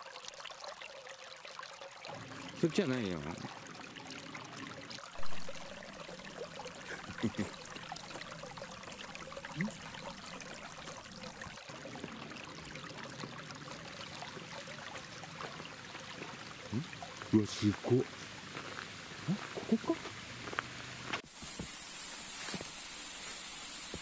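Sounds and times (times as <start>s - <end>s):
mountain stream rushing: 2.1s - 24.0s.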